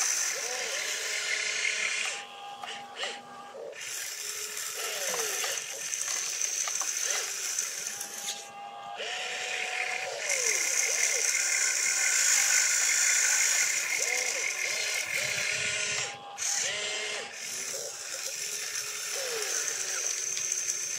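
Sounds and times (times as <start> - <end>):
small electric motors whirring: 0.0 - 20.9.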